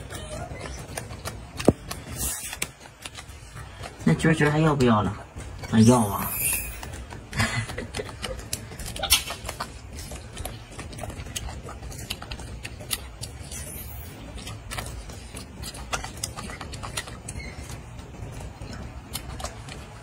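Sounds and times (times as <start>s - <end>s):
monkey chewing and smacking: 0.0s - 20.0s.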